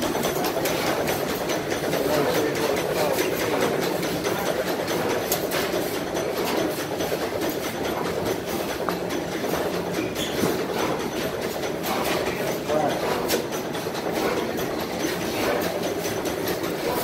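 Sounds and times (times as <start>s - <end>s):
stationary gas engines running: 0.0s - 17.0s.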